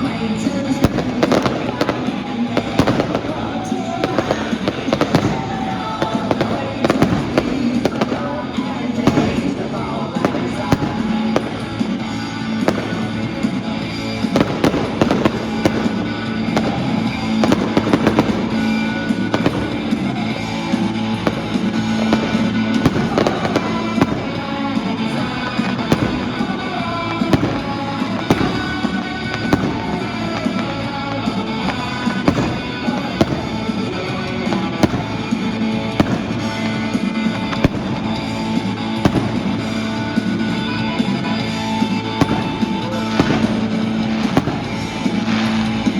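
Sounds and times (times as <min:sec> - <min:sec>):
fireworks bangs and crackles: 0:00.0 - 0:45.9
music with held notes: 0:00.0 - 0:45.9.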